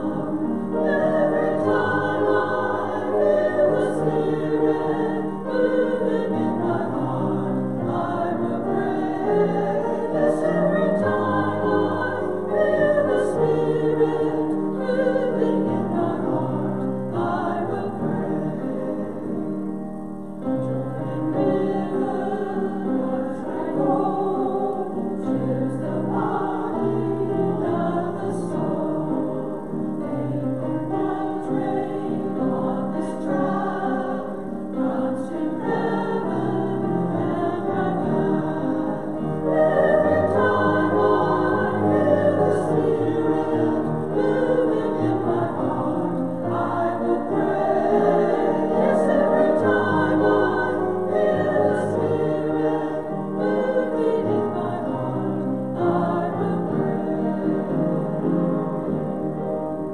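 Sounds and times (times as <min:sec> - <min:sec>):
choir singing sacred music: 0:00.0 - 0:59.9.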